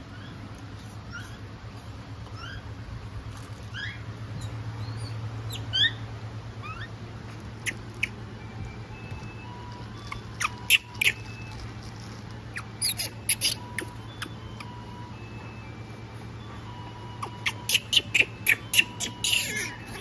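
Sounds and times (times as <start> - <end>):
monkeys squeaky calls: 0.0 - 1.6, 2.3 - 2.8, 3.4 - 15.0, 16.4 - 20.0
low steady hum: 0.0 - 20.0.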